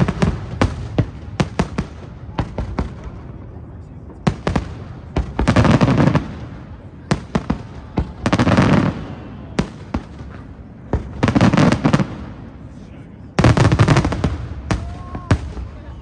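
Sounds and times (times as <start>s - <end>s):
crackling firework volleys: 0.0s - 16.0s.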